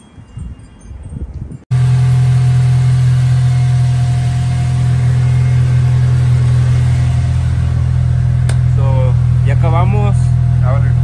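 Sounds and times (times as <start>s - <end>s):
car engine droning: 1.7s - 11.0s.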